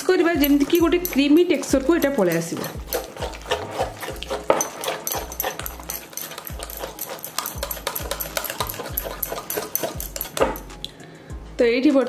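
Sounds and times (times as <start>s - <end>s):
wire whisk beating in glass bowl: 0.0s - 10.8s.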